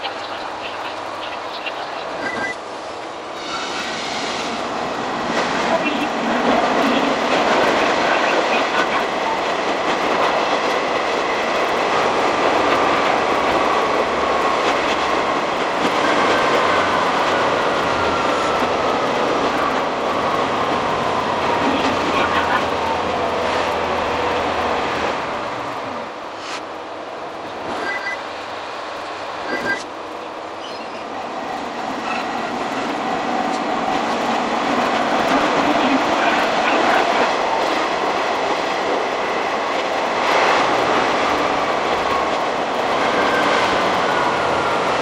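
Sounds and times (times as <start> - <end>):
rail and wheel noise: 0.0 - 45.0.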